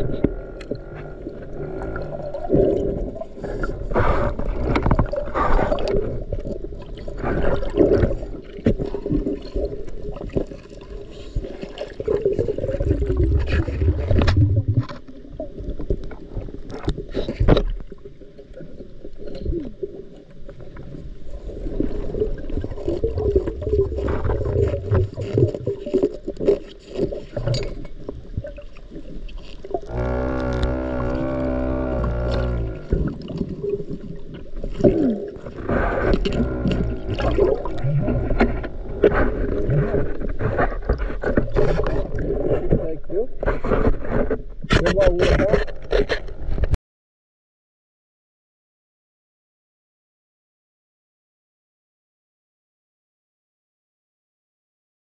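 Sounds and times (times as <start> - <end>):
muffled underwater water movement: 0.0 - 46.8.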